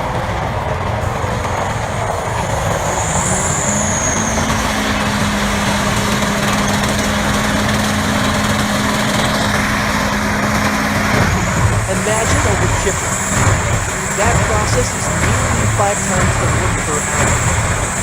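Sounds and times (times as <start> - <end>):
machine engine droning: 0.0 - 18.0
steady hum: 0.0 - 18.0.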